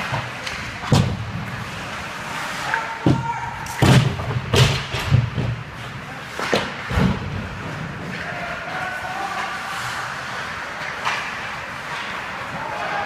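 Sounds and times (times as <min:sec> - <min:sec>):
puck and players slamming boards: 0:00.0 - 0:13.0.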